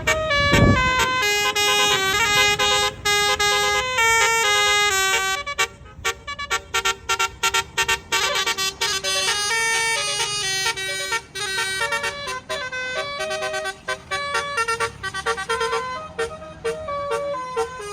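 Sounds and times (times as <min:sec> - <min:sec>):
musical air horn playing a tune: 0:00.0 - 0:17.9.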